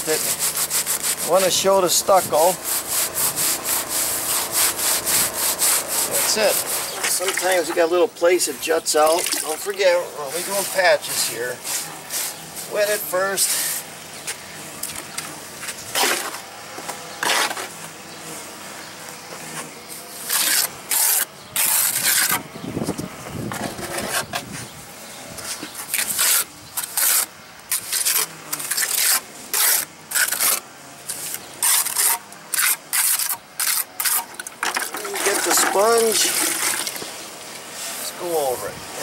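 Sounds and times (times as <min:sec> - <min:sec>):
scraping cement on wall: 0:00.0 - 0:18.4, 0:19.3 - 0:24.7, 0:25.4 - 0:39.0.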